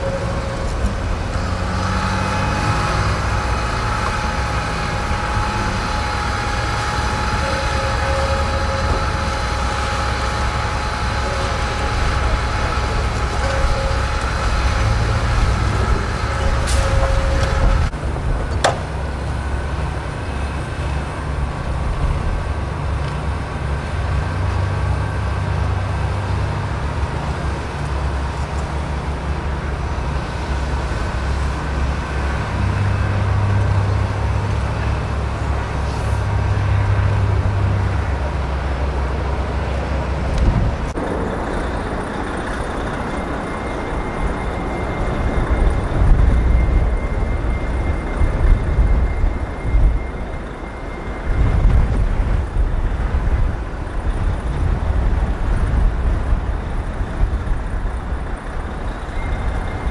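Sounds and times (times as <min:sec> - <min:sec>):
heavy vehicle engines rumbling: 0:00.0 - 0:59.9
wind gusting on microphone: 0:00.0 - 0:59.9.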